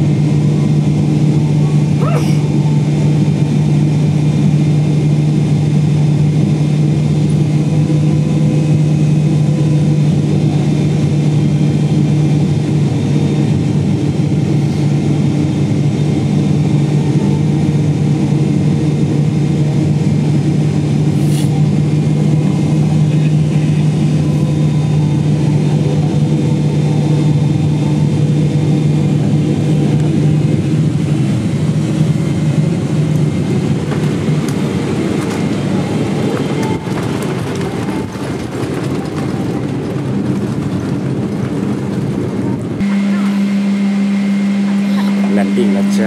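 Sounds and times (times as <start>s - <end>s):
strong hum: 0.0s - 46.0s
vehicle engine drone: 0.0s - 46.0s.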